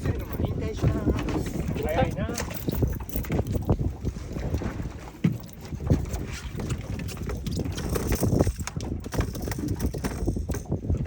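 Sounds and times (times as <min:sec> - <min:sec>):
water lapping: 0:00.0 - 0:11.0
wind on microphone: 0:00.0 - 0:11.0.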